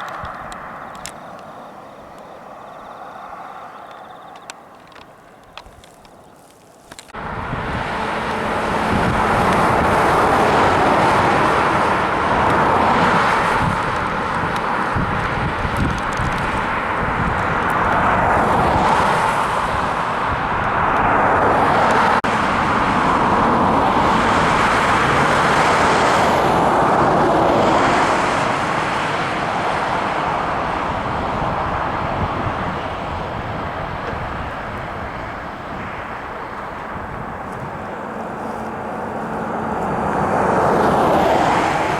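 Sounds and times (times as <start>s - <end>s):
train wheels rumbling on rail: 7.0s - 41.9s.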